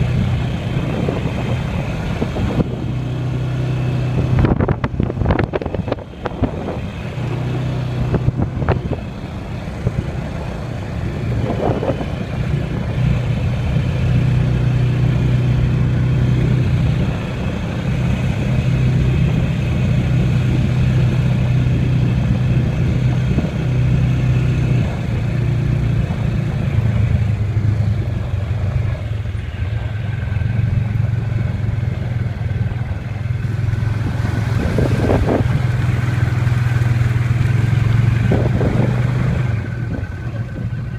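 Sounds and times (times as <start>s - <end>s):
atv engine droning: 0.0s - 40.9s.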